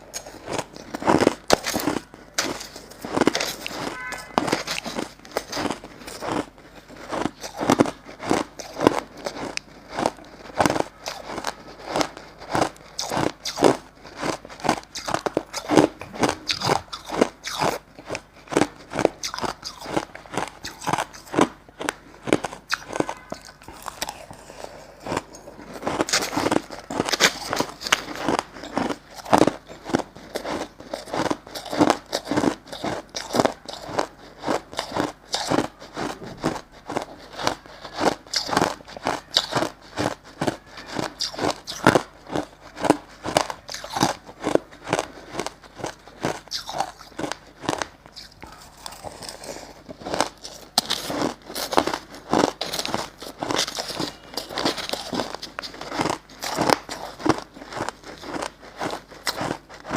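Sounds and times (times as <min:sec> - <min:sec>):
ice being bitten and chewed: 0:00.0 - 0:59.9.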